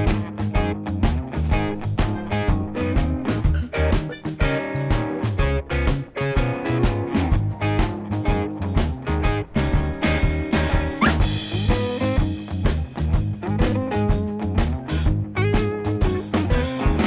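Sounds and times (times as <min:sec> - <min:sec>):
drum kit beat: 0:00.0 - 0:17.0
upbeat guitar tune: 0:00.0 - 0:17.0.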